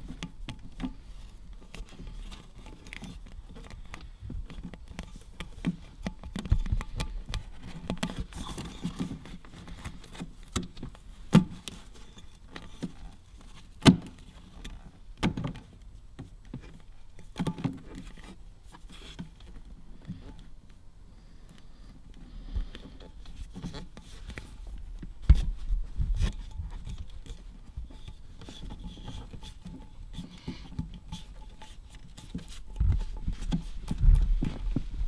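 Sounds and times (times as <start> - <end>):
hands tapping and rustling mat: 0.0 - 20.8, 21.9 - 35.0.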